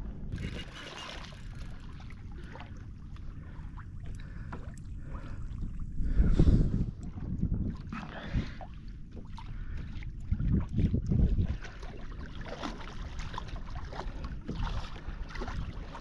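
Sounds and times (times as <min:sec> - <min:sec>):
water splashing around kayak: 0:00.0 - 0:16.0
wind buffeting microphone: 0:00.0 - 0:16.0.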